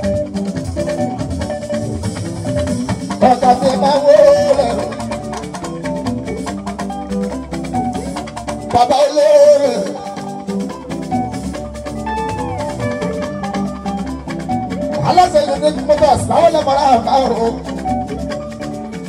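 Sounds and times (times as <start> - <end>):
band with drums and percussion: 0.0 - 19.0.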